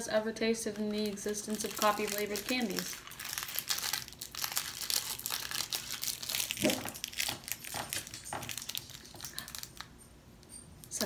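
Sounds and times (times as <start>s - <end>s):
candy wrapper crackling: 0.6s - 10.0s.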